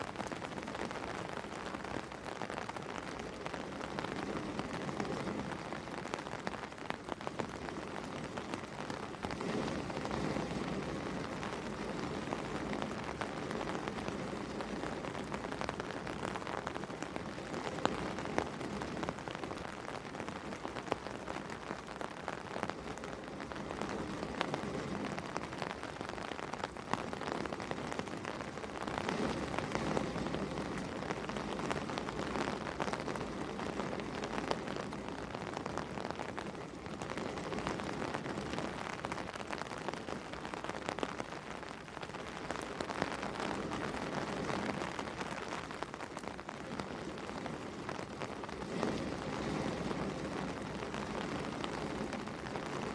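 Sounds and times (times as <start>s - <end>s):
rain drops ticking on a surface: 0.0s - 52.9s.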